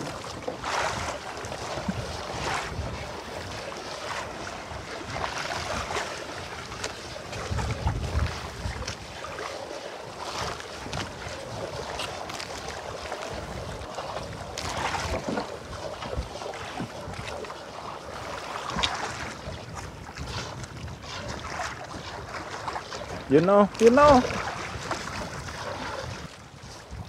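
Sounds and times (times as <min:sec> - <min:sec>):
water lapping against boat hull: 0:00.0 - 0:27.0
wind buffeting microphone: 0:00.0 - 0:27.0.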